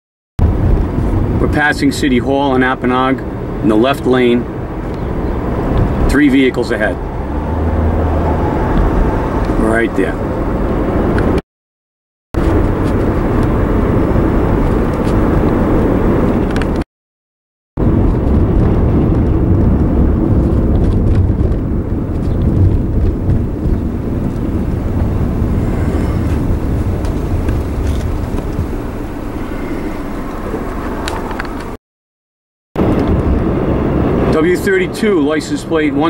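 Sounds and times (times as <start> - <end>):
road and engine noise inside car: 0.4 - 11.4, 12.4 - 16.8, 17.8 - 31.8, 32.8 - 36.0.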